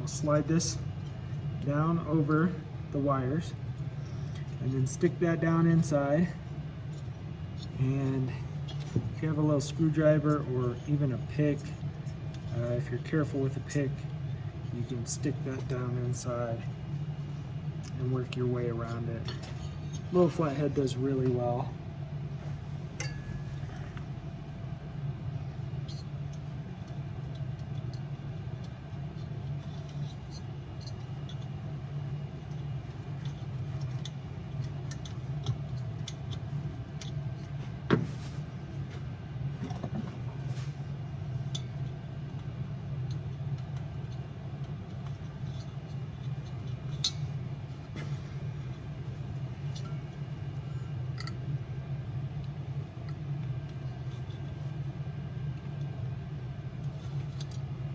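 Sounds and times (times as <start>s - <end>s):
low background hum: 0.0s - 57.9s.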